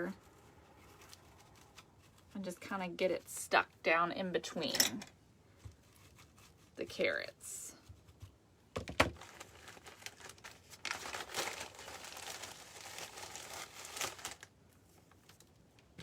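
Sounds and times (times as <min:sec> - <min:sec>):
wood wool crinkling and rustling: 0:00.0 - 0:03.9, 0:05.5 - 0:16.0.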